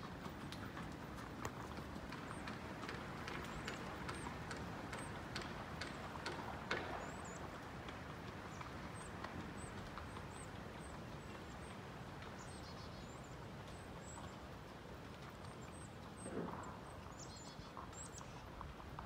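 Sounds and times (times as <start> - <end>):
soft steady rustle: 0.0 - 19.0
small birds chirping: 1.5 - 7.6, 8.4 - 14.5, 15.4 - 18.6.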